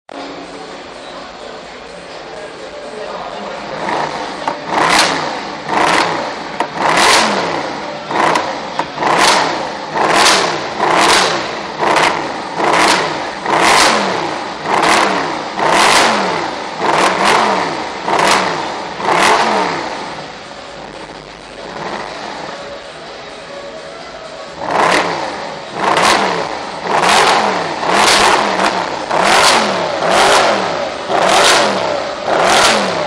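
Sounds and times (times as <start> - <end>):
car engine revving: 2.9 - 33.0.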